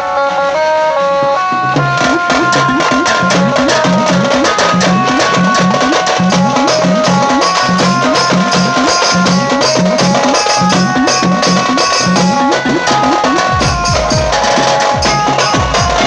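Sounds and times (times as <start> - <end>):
band playing dance music: 0.0 - 16.0
rapid drum hits: 1.2 - 16.0.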